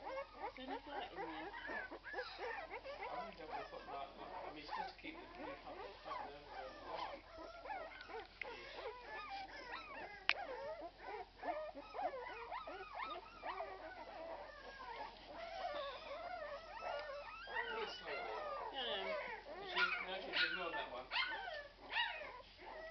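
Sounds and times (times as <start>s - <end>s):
puppies whimpering and squeaking: 0.0s - 22.9s.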